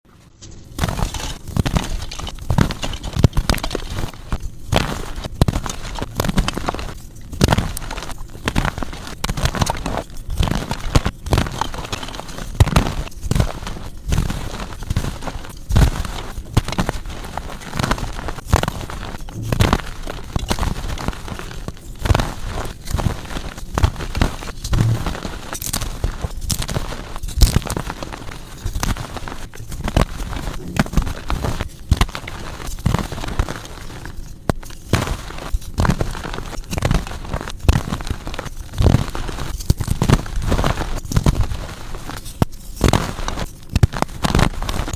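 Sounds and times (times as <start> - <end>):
chalk crunching and crumbling: 0.7 - 44.9.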